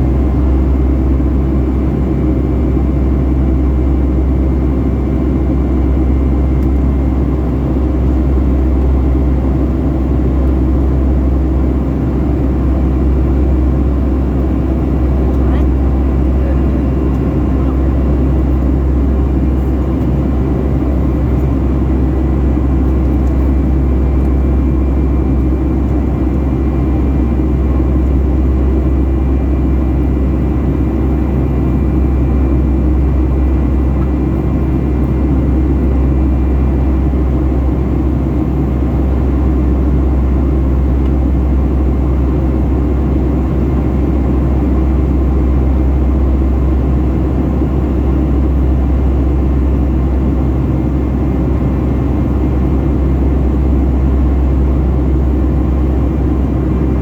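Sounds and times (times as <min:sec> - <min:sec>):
aircraft cabin rumble: 0:00.0 - 0:57.0
faint high engine whine: 0:00.0 - 0:57.0.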